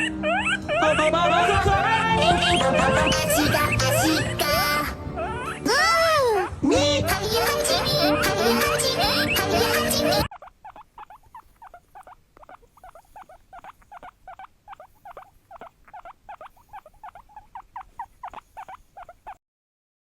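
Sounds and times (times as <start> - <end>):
guinea pig squeaking: 0.0 - 19.4.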